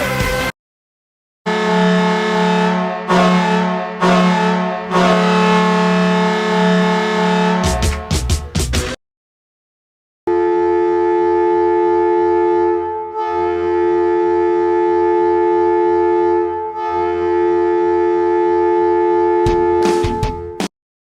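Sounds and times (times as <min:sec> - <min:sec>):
goal horn blasts: 0:01.5 - 0:08.4, 0:10.3 - 0:20.7.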